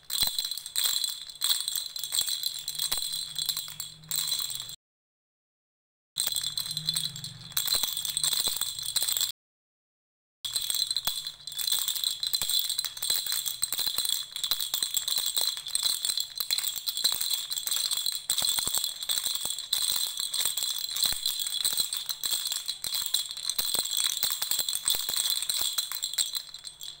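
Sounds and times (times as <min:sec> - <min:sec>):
baby rattle shaken: 0:00.0 - 0:04.8, 0:06.2 - 0:09.3, 0:10.5 - 0:27.0.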